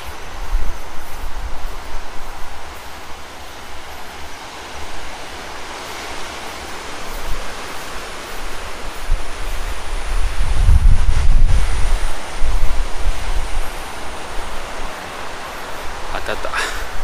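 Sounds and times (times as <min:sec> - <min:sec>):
sea surf hissing: 0:00.0 - 0:17.0
wind buffeting microphone: 0:00.0 - 0:17.0.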